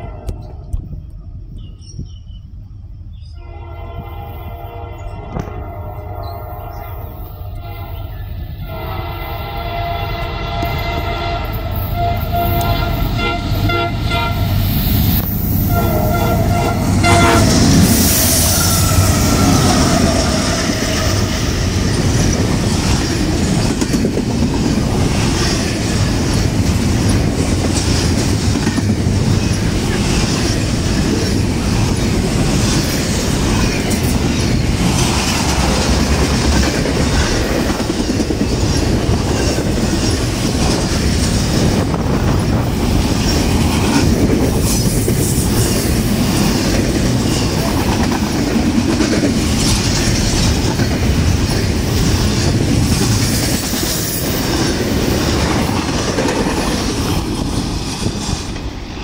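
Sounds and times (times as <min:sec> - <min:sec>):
freight train wheels clattering: 0:10.5 - 0:59.0.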